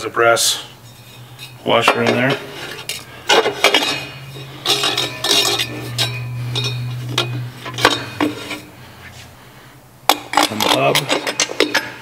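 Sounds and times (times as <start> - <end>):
steady low hum: 0.0 - 11.3
steel parts clinking and clanking: 0.8 - 8.7, 10.1 - 12.0.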